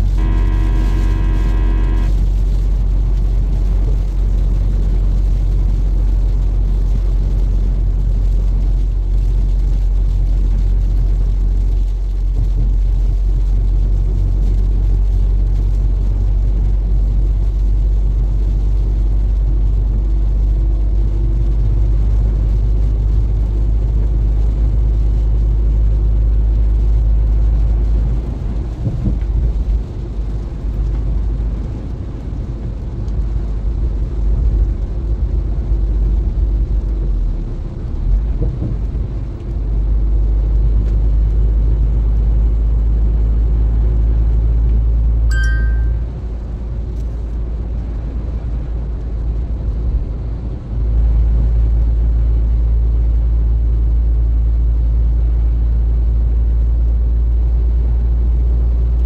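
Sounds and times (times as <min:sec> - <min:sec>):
rain: 0:00.0 - 0:59.0
truck engine and road rumble: 0:00.0 - 0:59.0.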